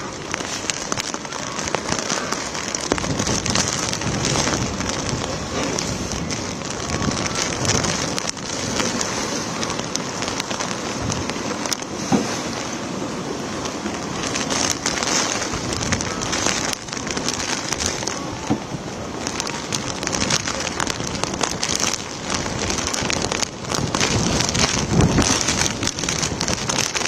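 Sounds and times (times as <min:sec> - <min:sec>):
gusting wind: 0:00.0 - 0:27.0
heavy rain: 0:00.0 - 0:27.0
waves splashing against embankment: 0:00.0 - 0:27.0.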